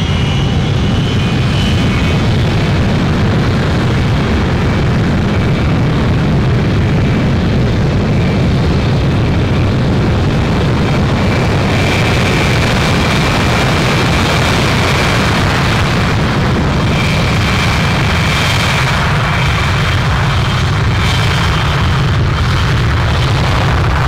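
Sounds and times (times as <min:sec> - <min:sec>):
high jet engine whine: 0:00.0 - 0:24.0
jet engines rumbling: 0:00.0 - 0:24.0.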